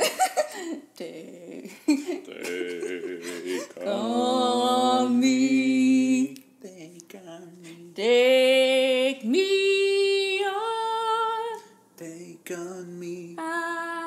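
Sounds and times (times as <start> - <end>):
person singing unaccompanied: 1.0 - 14.0.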